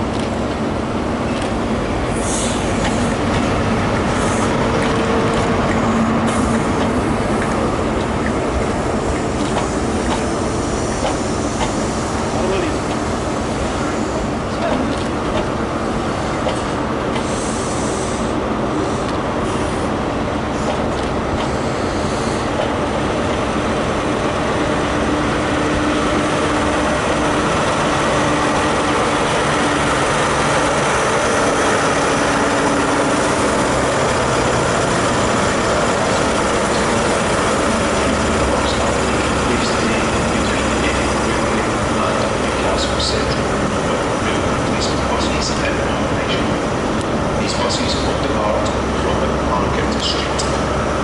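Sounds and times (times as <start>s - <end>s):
diesel engine: 0.0s - 51.0s
train wheels on rails: 0.0s - 51.0s.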